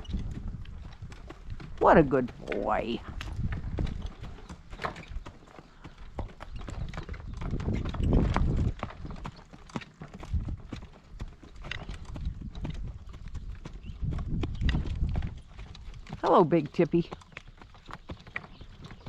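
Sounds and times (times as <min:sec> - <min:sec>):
wind buffeting microphone: 0:00.0 - 0:09.4, 0:10.1 - 0:17.2
horse hooves clopping: 0:00.0 - 0:19.0.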